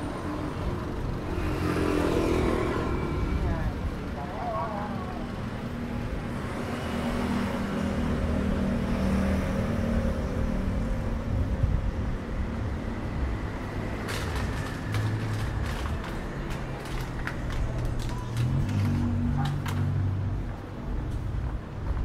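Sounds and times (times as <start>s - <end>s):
city street traffic: 0.0s - 22.0s.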